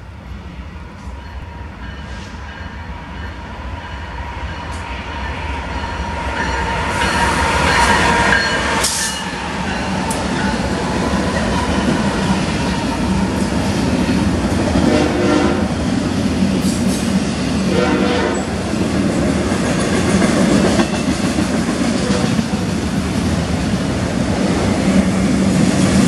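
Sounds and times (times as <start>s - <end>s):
diesel locomotives passing: 0.0s - 26.0s.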